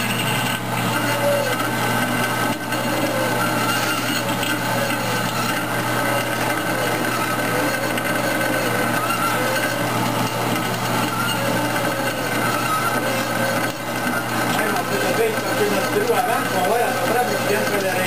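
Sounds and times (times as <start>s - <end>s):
band saw cutting metal: 0.0s - 18.0s.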